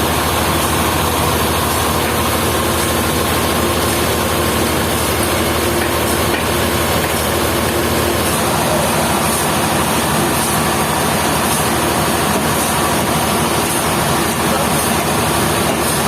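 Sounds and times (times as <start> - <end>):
sawmill machinery drone: 0.0 - 16.0.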